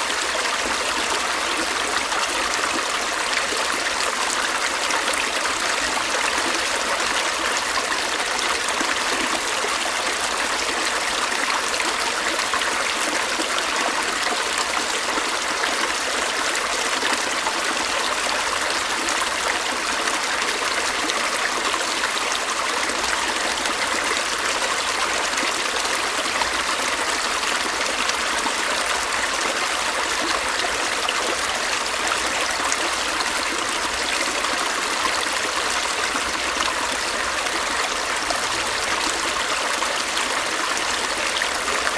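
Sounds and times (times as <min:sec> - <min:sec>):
stream running over rocks: 0:00.0 - 0:41.9.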